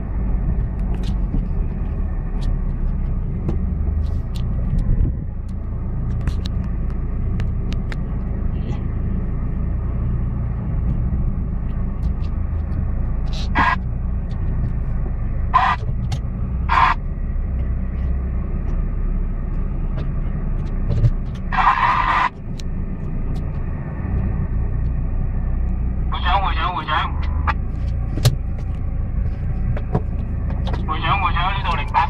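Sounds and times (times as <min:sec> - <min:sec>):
vehicle engine low rumble: 0:00.0 - 0:32.0.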